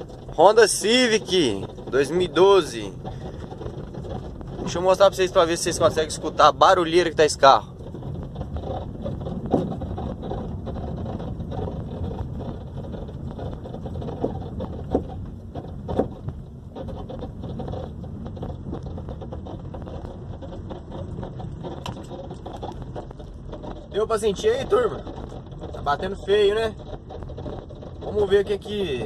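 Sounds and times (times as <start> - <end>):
road rumble: 0.0 - 29.0
suspension knocks: 0.0 - 29.0.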